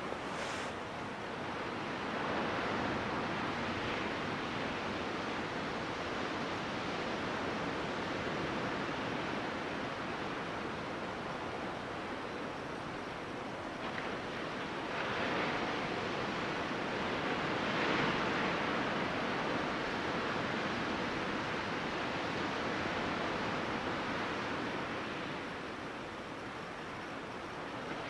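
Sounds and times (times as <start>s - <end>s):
ocean surf on sandy beach: 0.0s - 28.0s.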